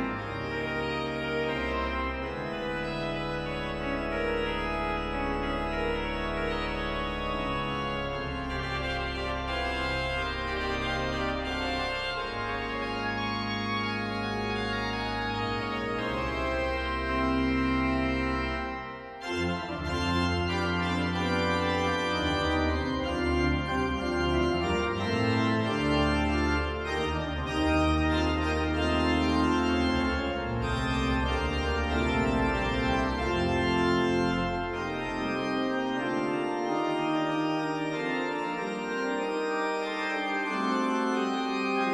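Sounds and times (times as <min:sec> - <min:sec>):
pipe organ fanfare: 0:00.0 - 0:41.9.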